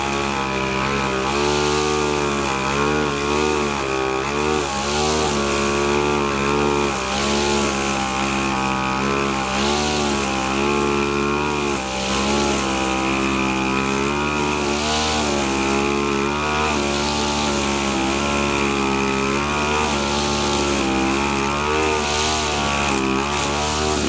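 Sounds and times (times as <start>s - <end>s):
brush cutter engine running: 0.0s - 24.0s.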